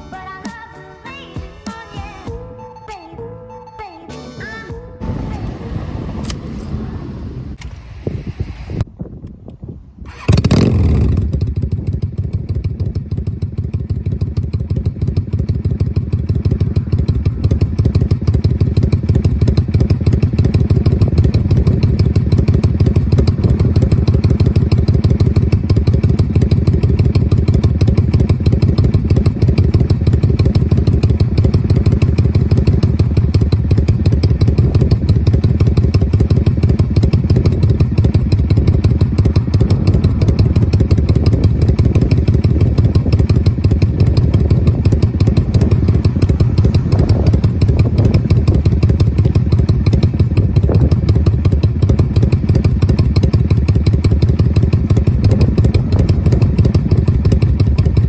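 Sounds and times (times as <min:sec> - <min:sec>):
motorcycle starting: 0:05.0 - 0:08.7, 0:10.0 - 0:58.0
motorcycle idling: 0:10.1 - 0:58.0.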